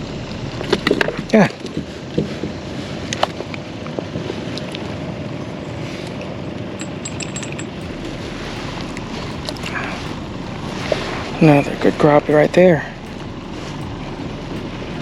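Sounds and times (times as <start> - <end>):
water noise: 0.0 - 15.0
wind: 0.0 - 15.0.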